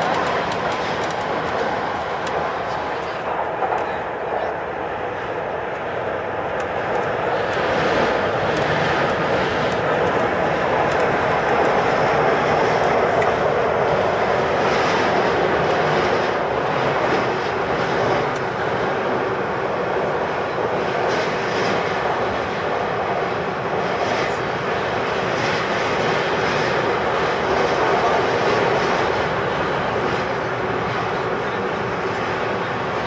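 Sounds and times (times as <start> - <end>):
electric train running in tunnel: 0.0 - 33.0.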